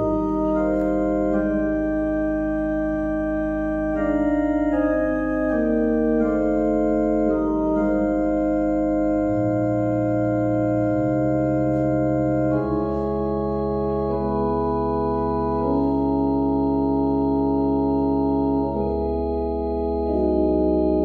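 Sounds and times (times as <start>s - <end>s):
organ playing slow chords: 0.0s - 21.0s.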